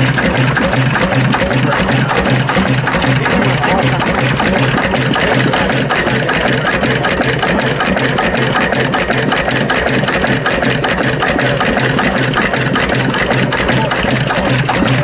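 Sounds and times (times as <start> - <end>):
diesel engine running: 0.0 - 15.0
valve gear clattering: 0.0 - 15.0.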